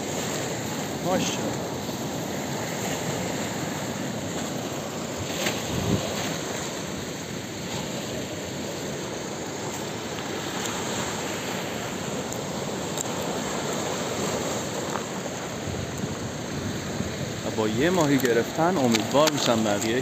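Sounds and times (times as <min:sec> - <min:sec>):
surf washing over shallows: 0:00.0 - 0:20.0
wind: 0:00.0 - 0:20.0.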